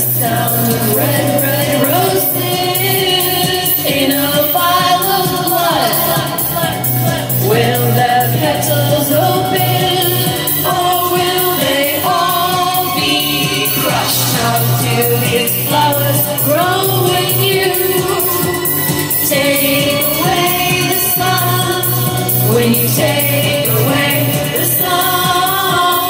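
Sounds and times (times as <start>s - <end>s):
instrumental music with steady beat: 0.0s - 26.0s
woman singing into microphone: 0.0s - 26.0s.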